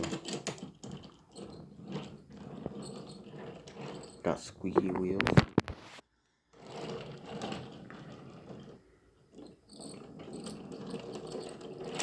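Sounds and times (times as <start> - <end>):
toy train car wheels rattling: 0.0 - 4.4, 6.6 - 12.0.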